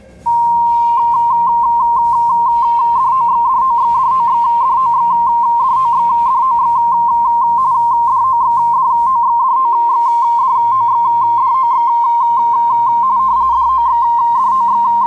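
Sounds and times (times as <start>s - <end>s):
radioteletype two-pitch tone: 0.2s - 15.0s.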